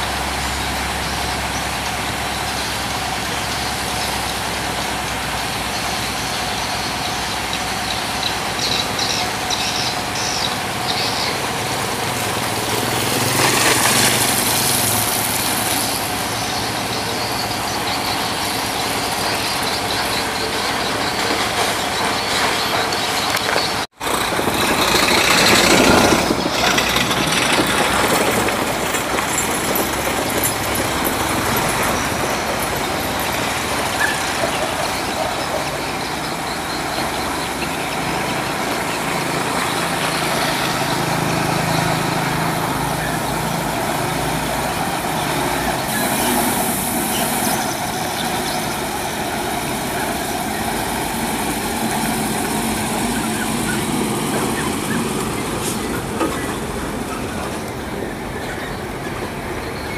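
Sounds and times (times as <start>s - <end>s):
heavy trucks rumbling: 0.0s - 59.9s.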